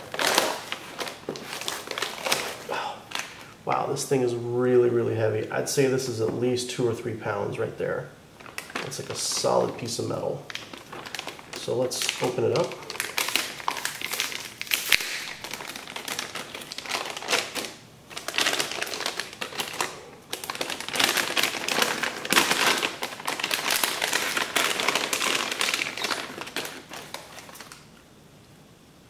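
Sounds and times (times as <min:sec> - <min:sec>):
plastic bag crinkling: 0:00.0 - 0:04.2, 0:08.4 - 0:28.0.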